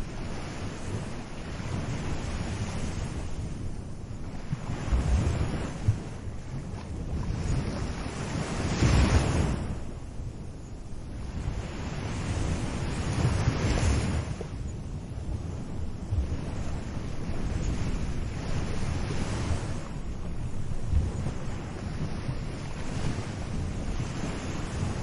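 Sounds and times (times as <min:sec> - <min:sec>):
small waves breaking on a beach: 0:00.0 - 0:25.0
wind rumble on microphone: 0:00.0 - 0:25.0.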